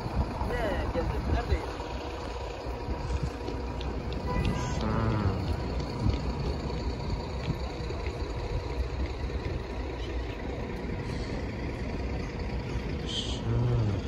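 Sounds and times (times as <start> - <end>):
street background hum: 0.0 - 14.0
vehicle engines rumbling: 0.0 - 14.0.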